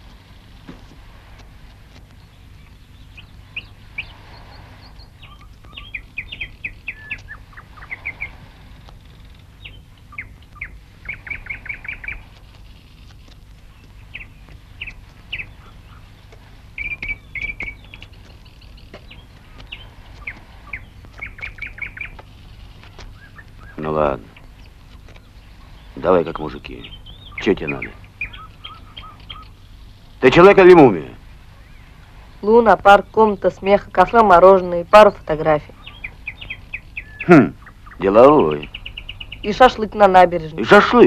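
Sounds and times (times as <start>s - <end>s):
low steady hum: 0.0s - 41.0s
songbirds chirping: 0.0s - 41.0s.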